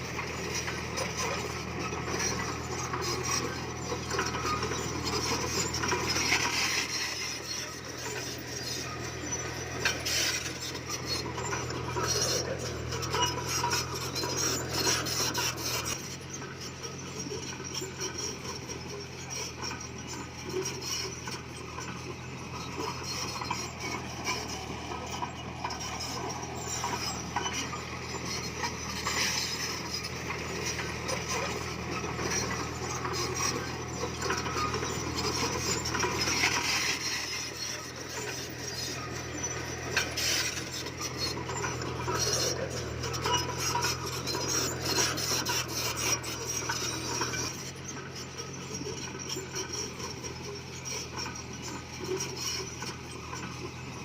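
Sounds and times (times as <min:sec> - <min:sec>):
bulldozer diesel engine drone: 0:00.0 - 0:54.0
metallic rattling and scraping: 0:00.0 - 0:54.0.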